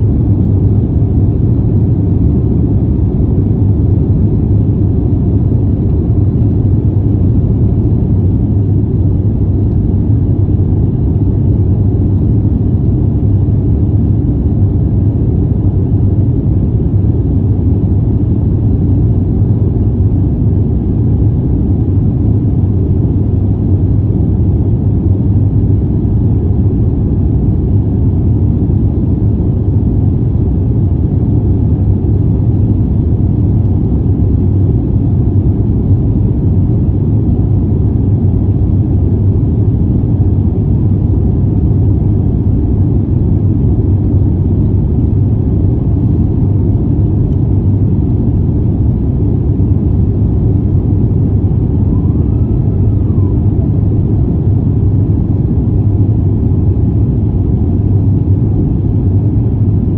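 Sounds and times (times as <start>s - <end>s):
jet engine and airflow rumble: 0.0s - 59.9s.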